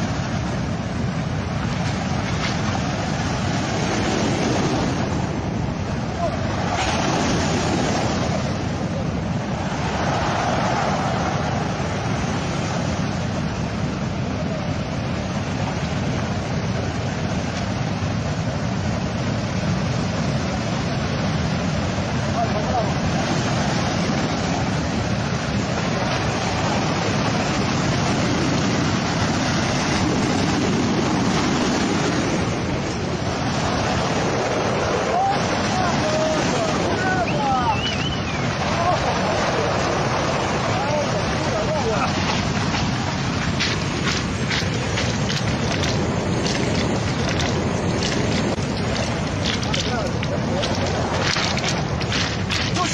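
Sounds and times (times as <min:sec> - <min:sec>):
surf breaking on shore: 0:00.0 - 0:52.9
wind buffeting microphone: 0:00.0 - 0:52.9.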